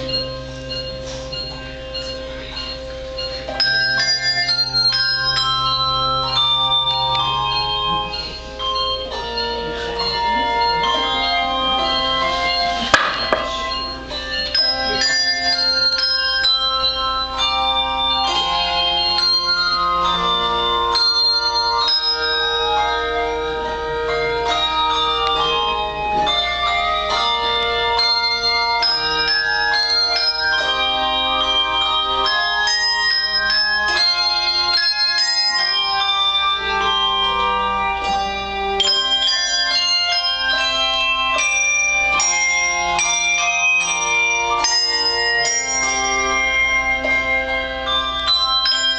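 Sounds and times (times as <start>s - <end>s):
handbell choir playing: 0.0s - 48.9s.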